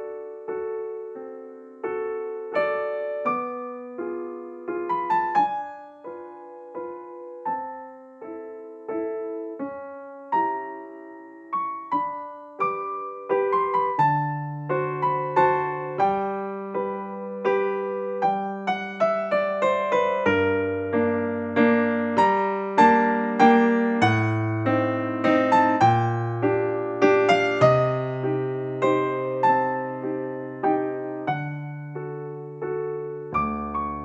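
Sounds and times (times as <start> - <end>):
gentle piano melody: 0.0 - 34.0.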